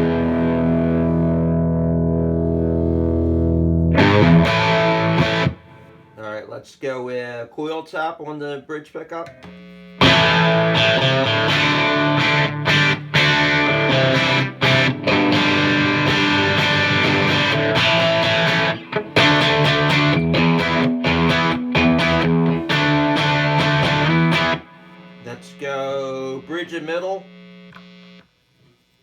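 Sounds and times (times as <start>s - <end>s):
electric guitar chords: 0.0s - 6.2s, 9.4s - 26.7s.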